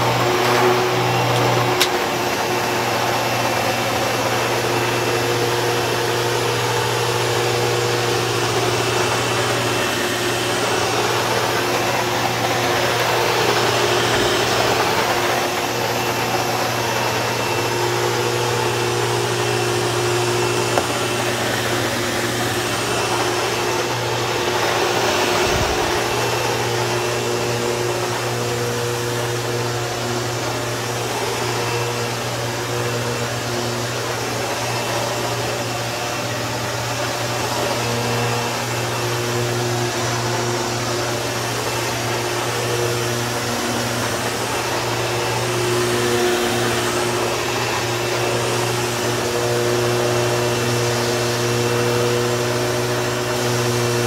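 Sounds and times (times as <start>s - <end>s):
upright vacuum cleaner running: 0.0s - 54.0s.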